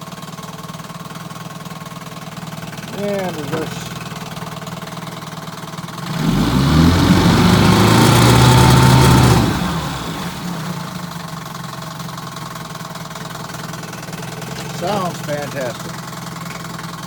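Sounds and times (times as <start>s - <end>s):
outboard motor revving and idling: 0.0s - 17.0s.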